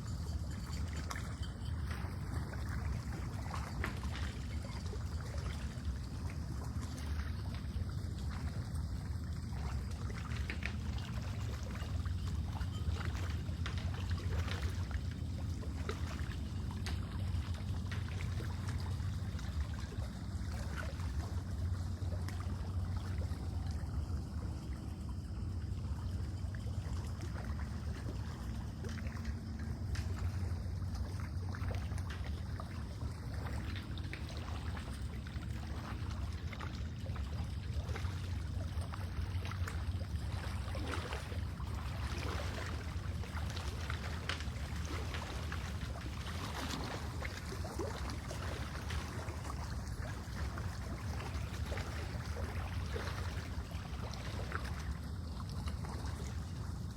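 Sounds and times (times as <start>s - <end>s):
steady low rumble: 0.0s - 56.9s
water lapping at shore: 0.0s - 56.9s.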